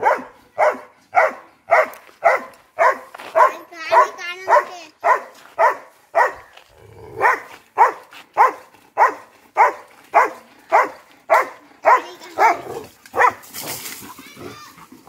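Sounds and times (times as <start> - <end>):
dog barking: 0.0 - 13.4.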